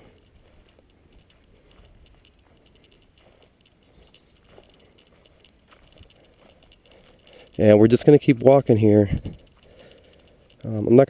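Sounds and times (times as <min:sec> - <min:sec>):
soft scattered ticks: 0:00.0 - 0:11.0.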